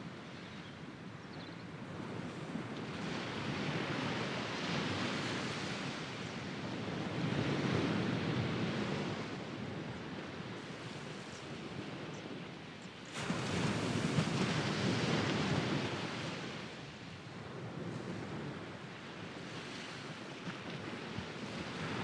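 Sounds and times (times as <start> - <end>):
waves breaking on beach: 1.8 - 22.0.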